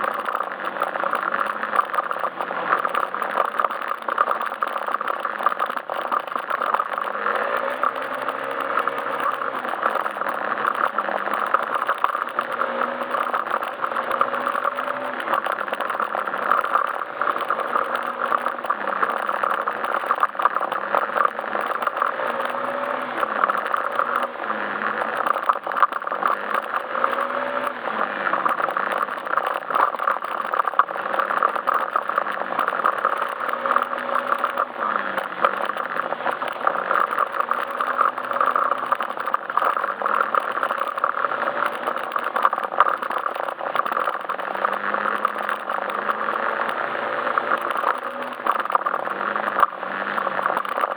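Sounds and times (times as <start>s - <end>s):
scooter engine revving: 0.0s - 50.9s.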